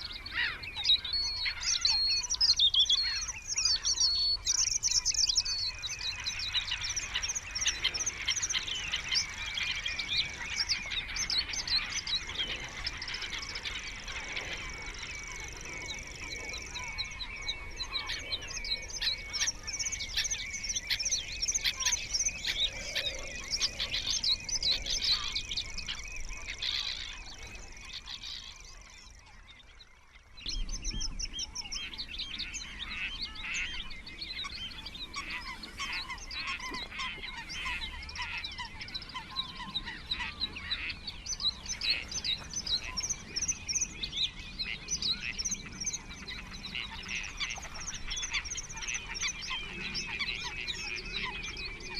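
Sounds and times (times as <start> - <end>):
small birds chirping and trilling: 0.0 - 51.9.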